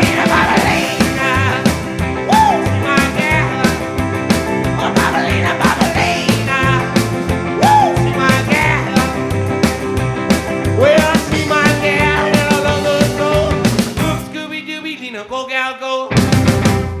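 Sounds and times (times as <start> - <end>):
drums keeping a steady beat: 0.0 - 14.4, 16.2 - 17.0
rock and roll band playing: 0.0 - 17.0.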